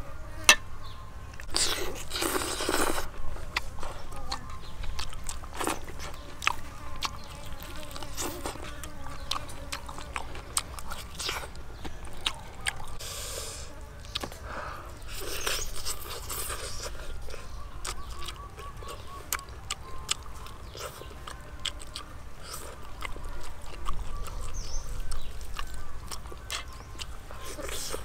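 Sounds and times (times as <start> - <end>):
birds chirping: 0.0 - 28.0
chicken torn apart and chewed: 1.4 - 13.0, 15.0 - 28.0.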